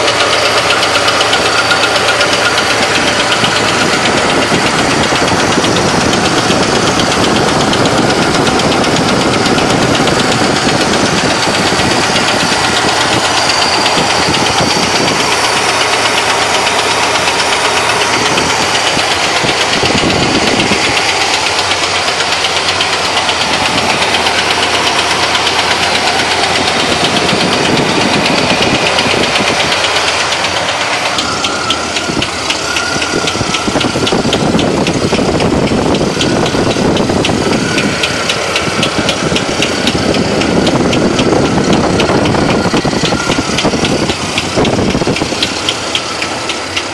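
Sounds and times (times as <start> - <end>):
engine running with loud knock: 0.0 - 46.9.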